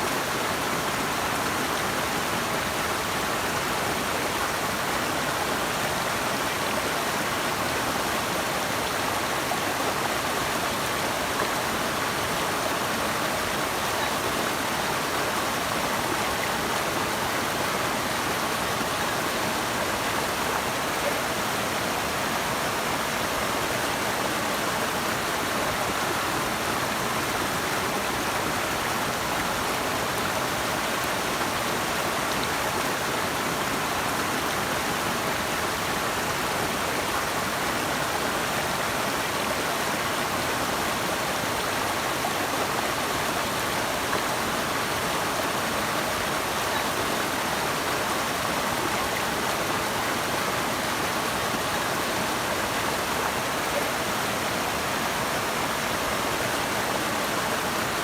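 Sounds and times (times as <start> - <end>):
rushing flowing water: 0.0 - 58.0.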